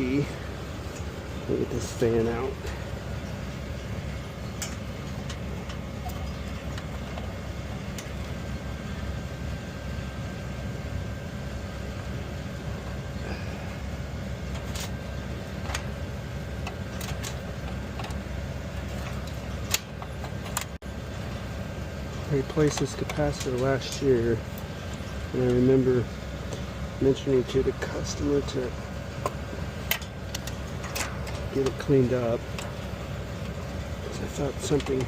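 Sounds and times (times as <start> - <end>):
faint steady hum: 0.0 - 35.0
low mechanical rumble: 0.0 - 35.0.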